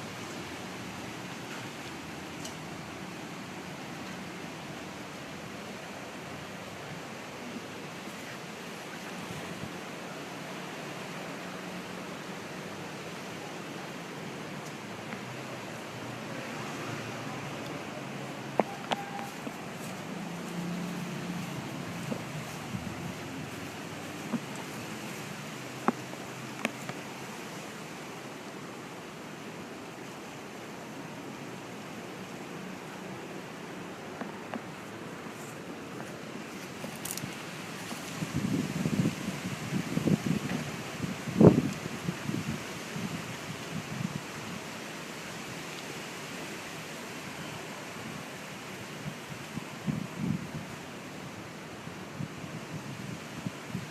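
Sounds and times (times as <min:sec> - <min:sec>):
wind blowing: 0:00.0 - 0:53.9.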